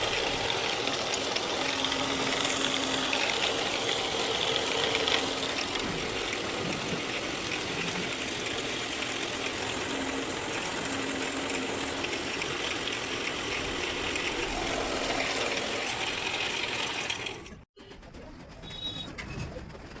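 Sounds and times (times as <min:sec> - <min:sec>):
power tool cutting wood: 0:00.0 - 0:17.6
quiet workshop sounds: 0:00.0 - 0:20.0.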